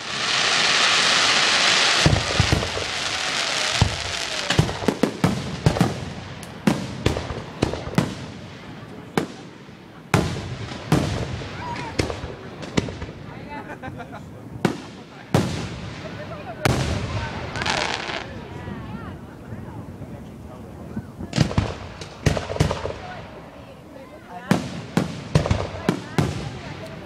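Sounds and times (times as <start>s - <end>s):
fireworks hissing: 0.0s - 19.6s, 20.5s - 27.0s
fireworks bangs and crackles: 0.0s - 27.0s.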